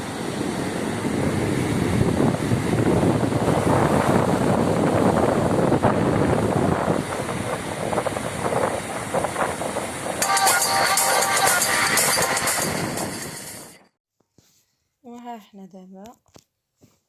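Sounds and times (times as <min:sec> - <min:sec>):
sea surf rushing: 0:00.0 - 0:13.8
wind buffeting microphone: 0:00.0 - 0:13.8.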